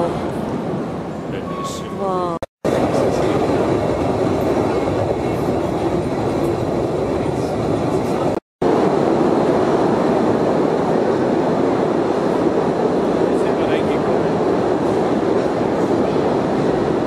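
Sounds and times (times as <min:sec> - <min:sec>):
train wheels rumbling on track: 0:02.6 - 0:17.0.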